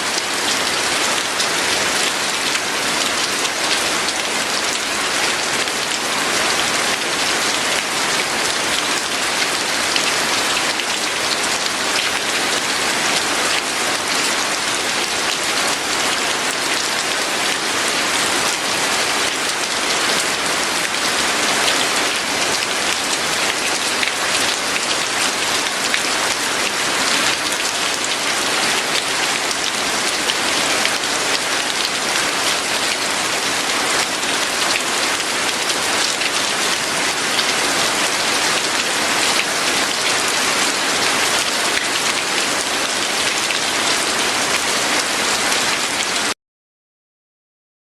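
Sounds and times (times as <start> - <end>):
heavy rain falling: 0.0 - 46.4.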